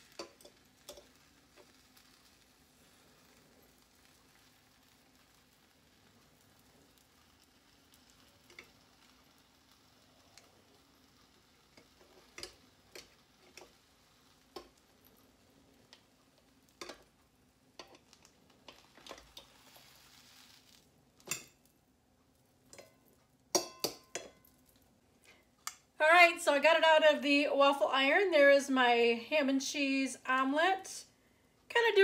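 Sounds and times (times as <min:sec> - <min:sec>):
faint sizzle: 0:00.0 - 0:32.0.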